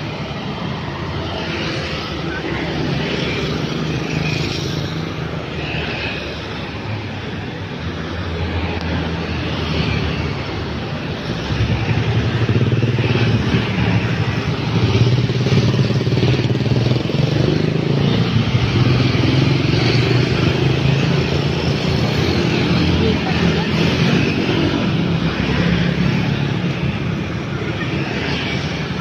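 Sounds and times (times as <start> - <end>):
motor scooters passing: 0.0 - 29.0.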